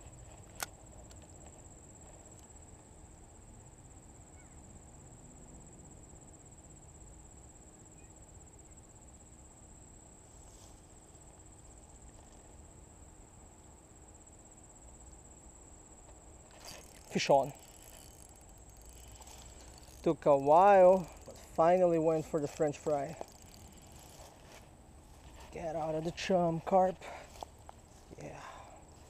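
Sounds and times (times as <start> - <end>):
insect trill: 0.0 - 29.0.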